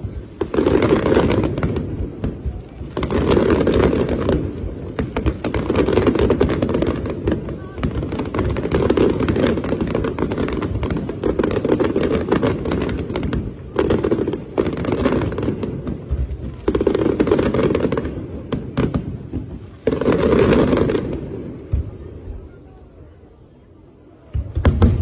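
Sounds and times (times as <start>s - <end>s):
fireworks bursting and crackling: 0.0s - 25.0s.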